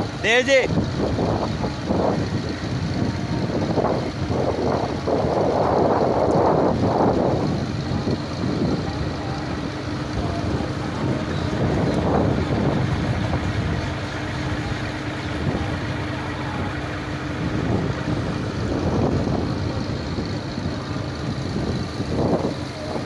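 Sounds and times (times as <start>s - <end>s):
wind buffeting the microphone: 0.0s - 23.0s.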